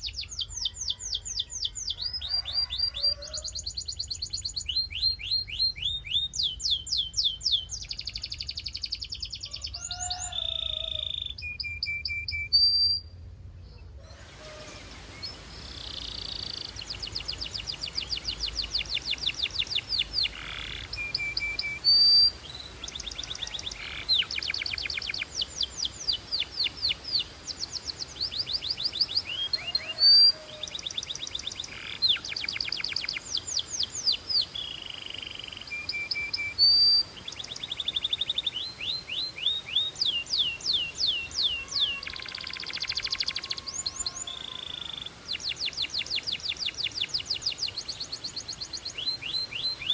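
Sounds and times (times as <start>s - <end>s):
canary singing trills: 0.0s - 13.1s, 14.1s - 49.9s.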